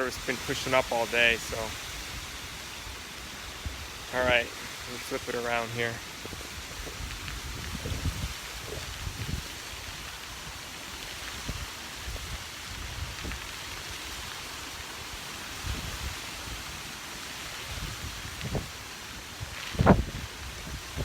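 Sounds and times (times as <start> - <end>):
wind buffeting microphone: 0.0 - 14.4, 15.1 - 16.9, 17.5 - 21.0
storm wind over surging water: 0.0 - 21.0.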